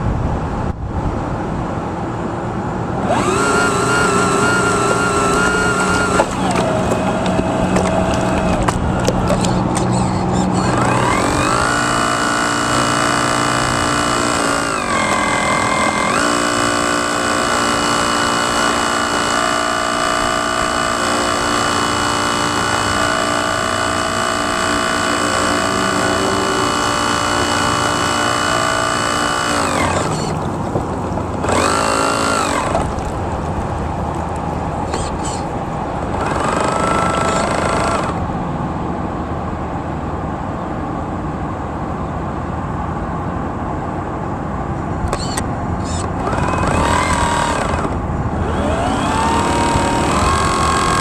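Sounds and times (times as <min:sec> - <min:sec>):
model boat motor whining: 0:03.0 - 0:38.3, 0:45.1 - 0:51.0.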